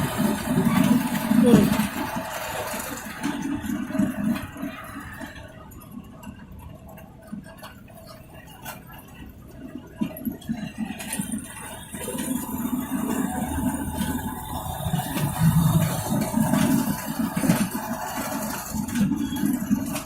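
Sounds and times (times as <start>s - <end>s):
moving train rumble: 0.0s - 20.0s.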